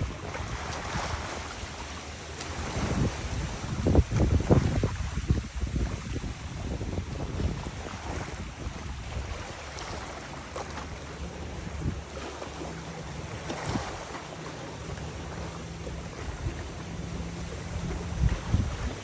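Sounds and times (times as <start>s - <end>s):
low hum: 0.0s - 19.0s
river water rushing: 0.0s - 19.0s
wind buffeting microphone: 0.0s - 19.0s.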